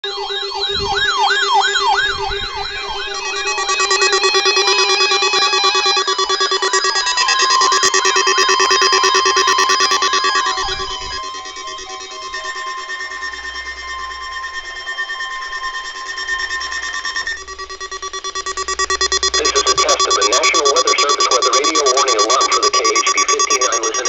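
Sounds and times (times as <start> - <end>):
steady siren tone: 0.0 - 24.0
wailing siren: 0.0 - 24.0
warbling siren tones: 0.0 - 24.0.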